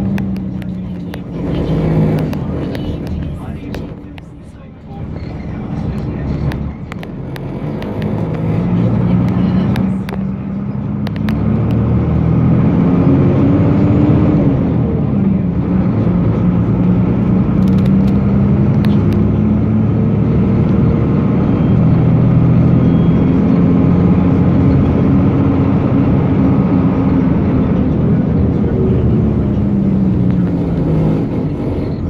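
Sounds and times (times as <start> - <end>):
bus engine running: 0.0 - 32.0
road noise: 0.0 - 32.0.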